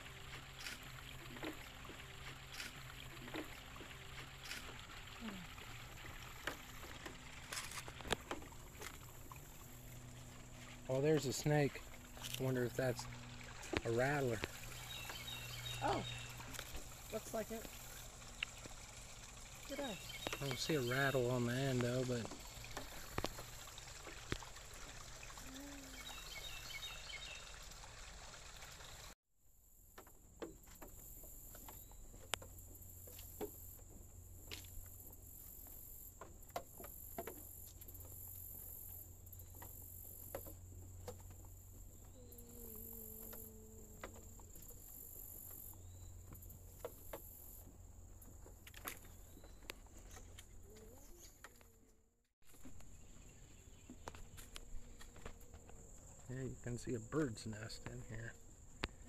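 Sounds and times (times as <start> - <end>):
insects droning: 0.0 - 51.8, 52.5 - 59.0.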